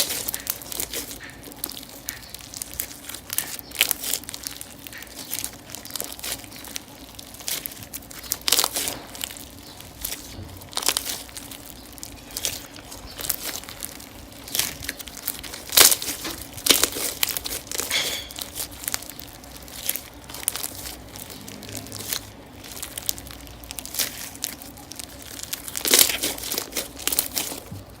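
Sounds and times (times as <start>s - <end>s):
slime crinkling and popping: 0.0s - 28.0s.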